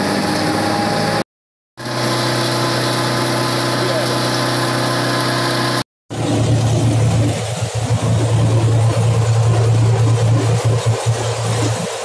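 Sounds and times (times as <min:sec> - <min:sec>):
straw grinder humming: 0:01.8 - 0:12.0.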